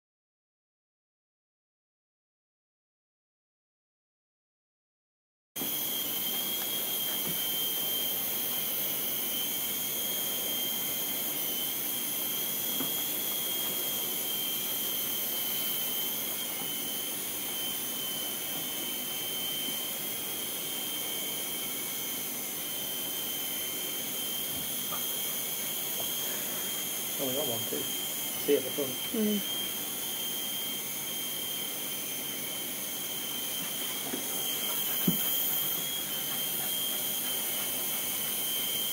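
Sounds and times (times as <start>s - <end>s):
toy helicopter motor whine: 5.6s - 38.9s.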